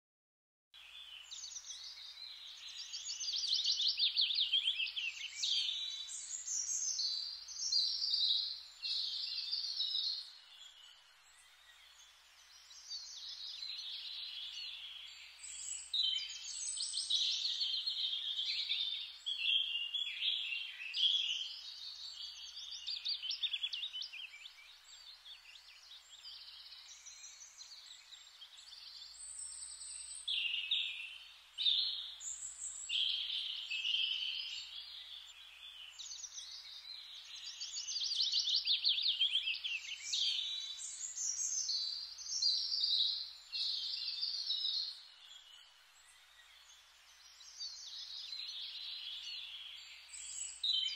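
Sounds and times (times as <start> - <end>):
birds singing and chirping: 0.9 - 50.9.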